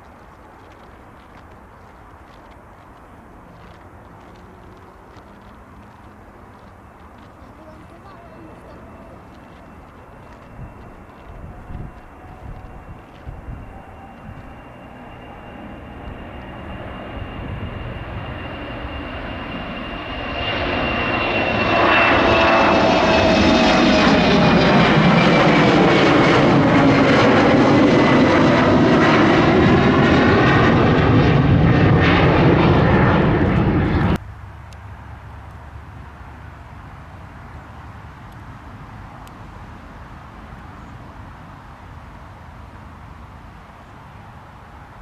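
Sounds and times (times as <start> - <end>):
jet engines on takeoff: 0.0 - 45.0.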